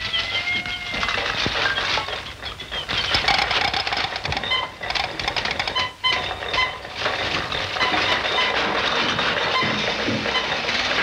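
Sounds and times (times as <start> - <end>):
rapid mechanical clattering: 0.0 - 11.0.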